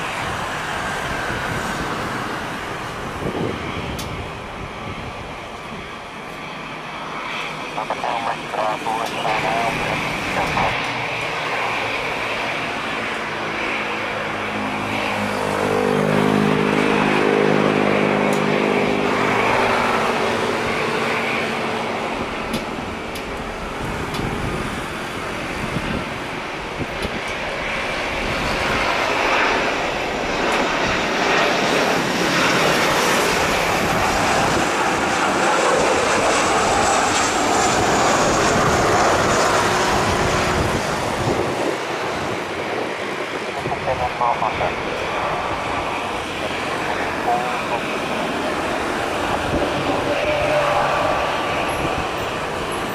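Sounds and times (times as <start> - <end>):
jet engines roaring: 0.0 - 52.9.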